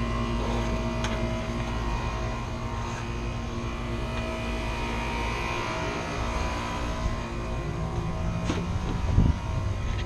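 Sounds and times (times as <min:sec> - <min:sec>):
steady machine hum: 0:00.0 - 0:10.0.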